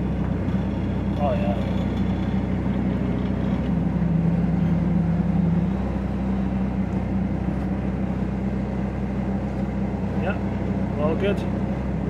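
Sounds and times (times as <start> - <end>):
diesel engine running: 0.0 - 12.0
lower engine note: 0.0 - 12.0.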